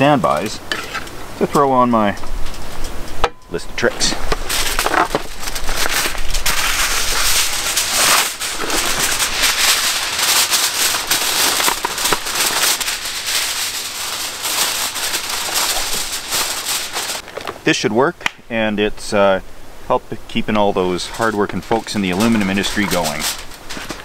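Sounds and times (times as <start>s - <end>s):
aluminum foil crinkling: 0.0s - 3.0s, 3.8s - 17.6s, 20.8s - 24.0s.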